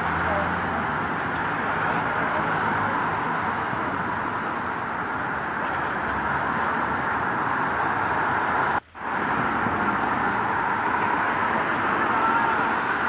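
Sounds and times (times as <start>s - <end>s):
steady rain: 0.0s - 13.0s
traffic noise: 0.0s - 13.0s.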